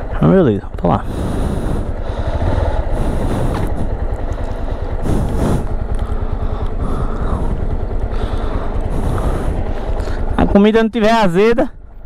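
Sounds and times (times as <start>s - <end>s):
motorcycle engine low rumble: 0.0s - 12.0s.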